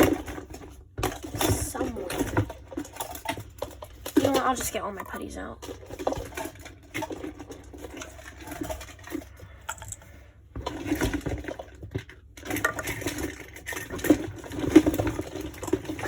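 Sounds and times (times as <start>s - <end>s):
metal tins clinking and knocking: 0.0s - 16.0s.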